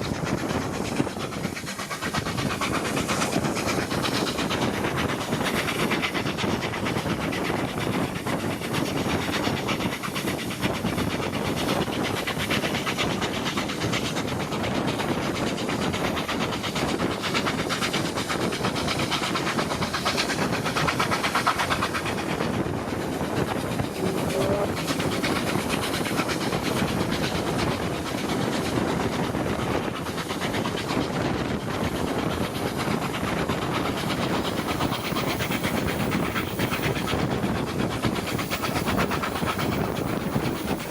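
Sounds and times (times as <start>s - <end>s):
train wheels rolling on rails: 0.0s - 40.9s.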